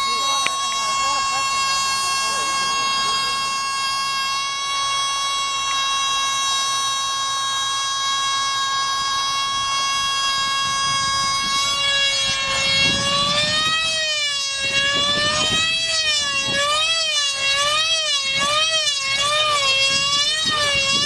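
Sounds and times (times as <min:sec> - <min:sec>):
model airplane motor whining: 0:00.0 - 0:21.0.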